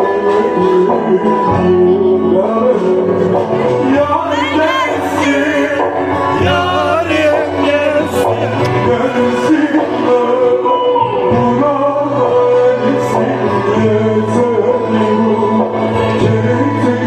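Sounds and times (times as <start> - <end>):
held instrumental notes: 0.0 - 17.0
man singing with ornamented runs: 0.0 - 17.0.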